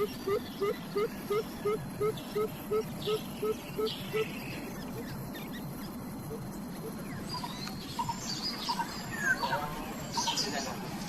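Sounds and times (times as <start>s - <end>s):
bird low hooting notes: 0.0s - 10.4s
young birds chirping: 0.0s - 10.8s.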